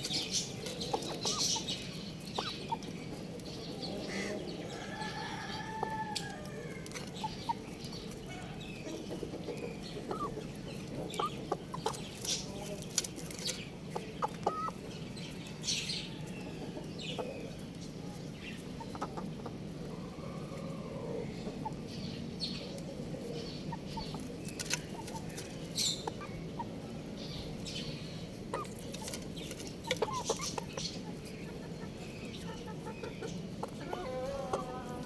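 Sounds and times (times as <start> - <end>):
chickens clucking and peeping: 0.0 - 35.0.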